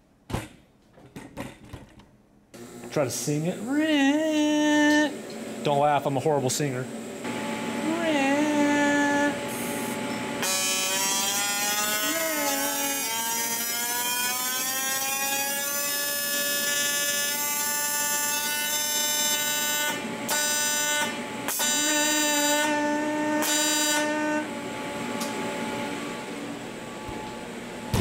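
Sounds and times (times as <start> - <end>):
welding arc buzzing: 2.6 - 25.7.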